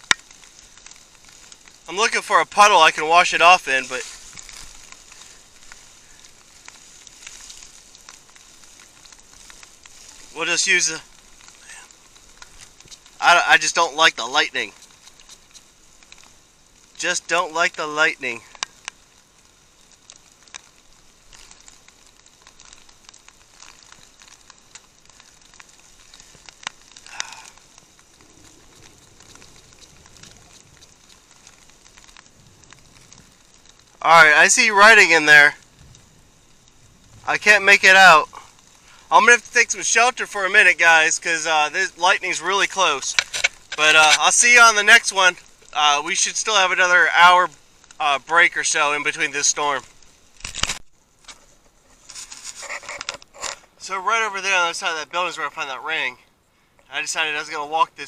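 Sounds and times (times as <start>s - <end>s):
heavy rain hissing: 0.0s - 58.0s
raindrops ticking close by: 0.0s - 58.0s.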